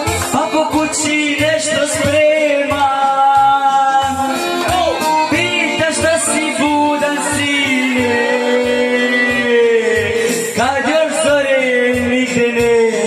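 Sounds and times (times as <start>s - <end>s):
backing music with steady beat: 0.0s - 13.0s
man singing into microphone: 0.0s - 13.0s.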